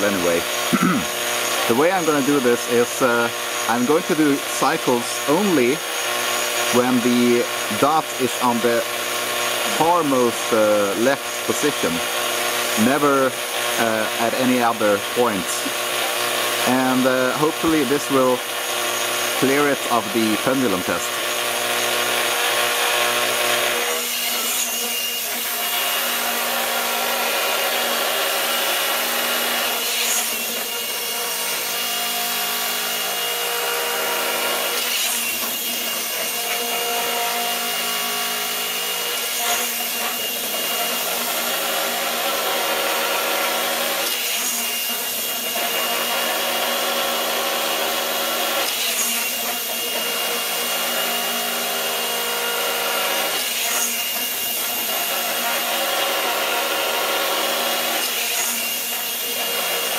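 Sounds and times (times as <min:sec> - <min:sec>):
machine whirring: 0:00.0 - 0:59.9.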